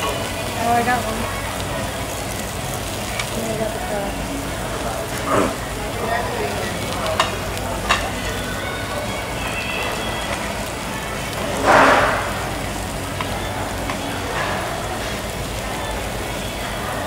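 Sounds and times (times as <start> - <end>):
meat sizzling on grill plate: 0.0 - 17.0.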